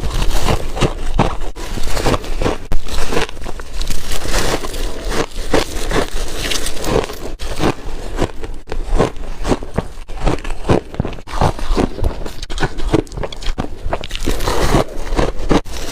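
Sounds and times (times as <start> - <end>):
person crunching ice: 0.0 - 15.9.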